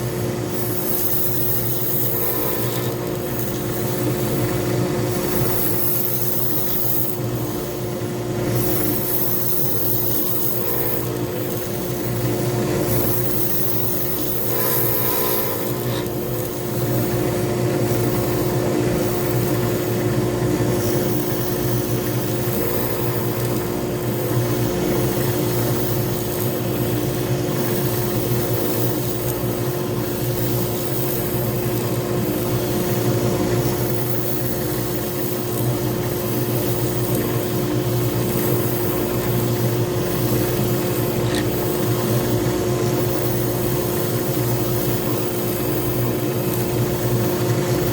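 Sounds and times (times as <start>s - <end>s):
lathe humming: 0.0s - 44.3s
tool scraping spinning wood: 0.0s - 47.9s.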